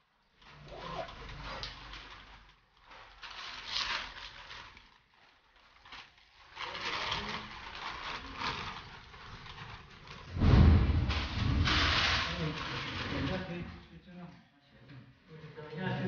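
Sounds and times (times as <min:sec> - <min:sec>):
fabric rustling and scraping: 0:00.0 - 0:13.9.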